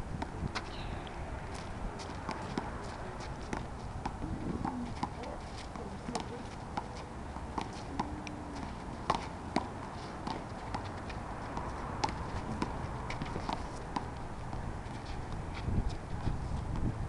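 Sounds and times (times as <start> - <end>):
background noise: 0.0 - 17.0.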